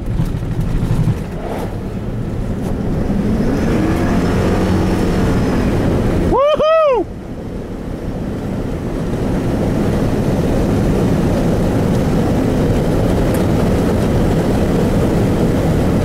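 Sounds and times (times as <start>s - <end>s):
road noise: 0.0s - 16.0s
truck engine accelerating: 0.0s - 16.0s.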